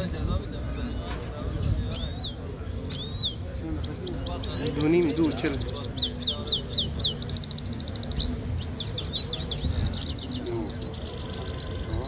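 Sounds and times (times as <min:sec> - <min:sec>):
bird twittering song: 0:00.4 - 0:12.0.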